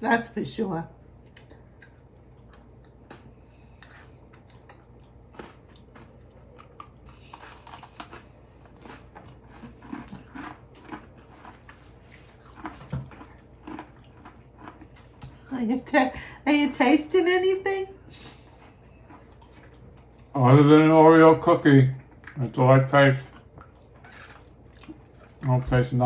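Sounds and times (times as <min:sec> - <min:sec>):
chewing and crunching cookies: 0:01.1 - 0:15.9, 0:18.1 - 0:26.0.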